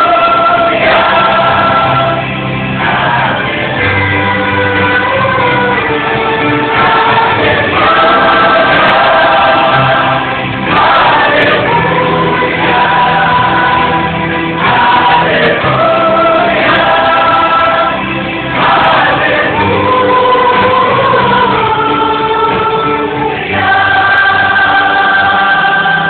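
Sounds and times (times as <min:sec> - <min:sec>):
choir singing gospel song: 0:00.0 - 0:26.0
musical accompaniment: 0:00.0 - 0:26.0.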